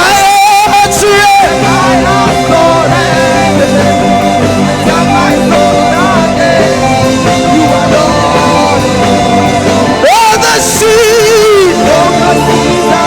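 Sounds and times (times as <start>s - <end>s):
live worship band music: 0.0s - 13.0s
wordless vocal lines: 0.0s - 13.0s.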